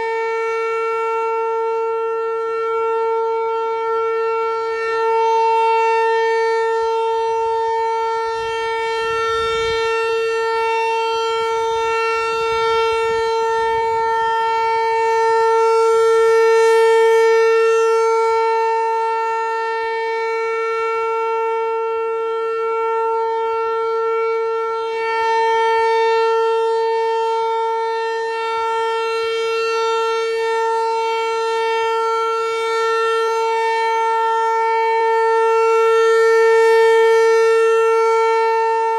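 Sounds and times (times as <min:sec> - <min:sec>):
tornado siren steady tone: 0:00.0 - 0:38.9.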